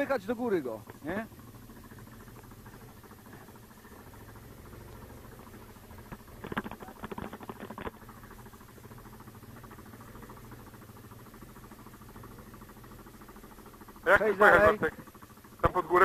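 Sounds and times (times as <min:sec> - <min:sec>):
engine idling: 0:00.0 - 0:16.0
rapid rattling clatter: 0:00.0 - 0:16.0.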